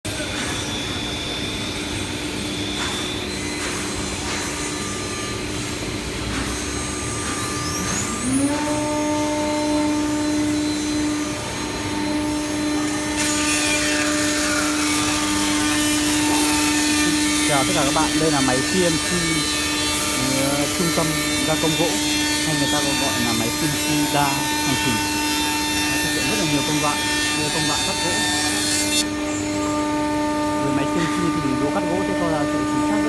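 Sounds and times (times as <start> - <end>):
machining centre humming: 0.1 - 33.0
motor whine: 0.3 - 33.0.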